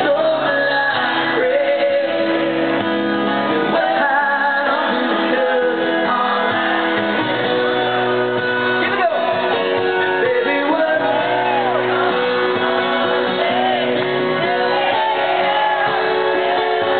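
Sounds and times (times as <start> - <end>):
amplified guitars: 0.0 - 16.9.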